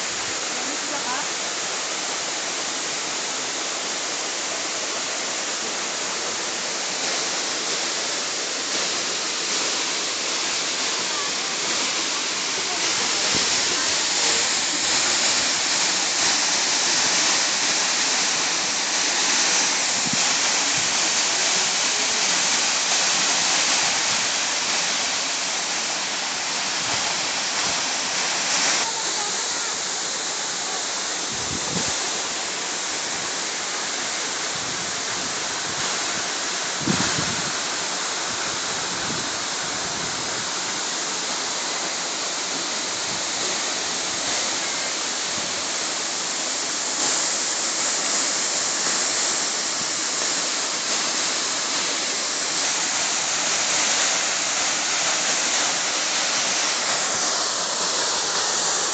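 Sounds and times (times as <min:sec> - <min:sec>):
waterfall pouring: 0:00.0 - 0:58.9.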